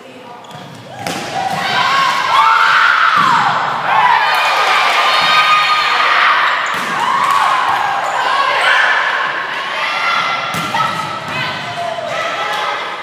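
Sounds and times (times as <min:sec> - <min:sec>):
crowd cheering and shouting: 0:01.0 - 0:13.0.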